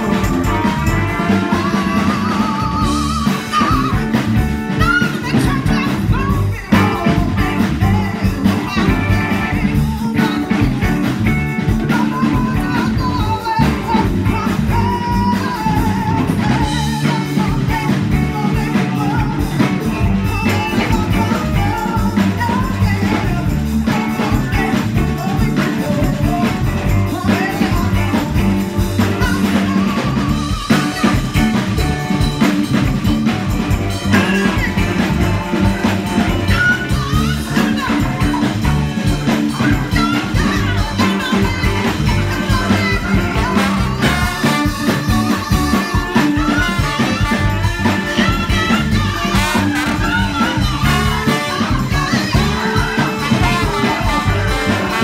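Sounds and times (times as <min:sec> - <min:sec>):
horn section: 0:00.0 - 0:12.7, 0:13.6 - 0:55.0
live band playing: 0:00.0 - 0:55.0
woman singing: 0:00.0 - 0:55.0.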